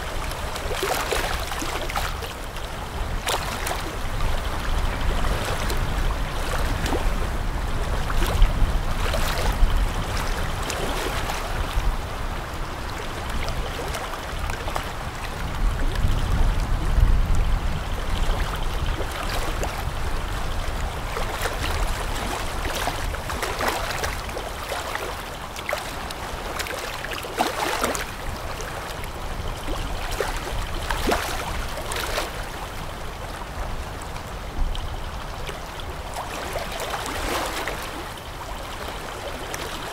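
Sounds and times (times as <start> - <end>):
river water splashing and lapping: 0.0 - 39.9.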